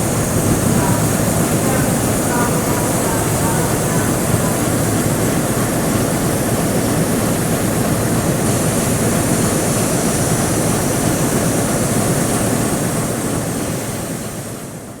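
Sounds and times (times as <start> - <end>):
diesel locomotive rumbling: 0.0 - 12.2.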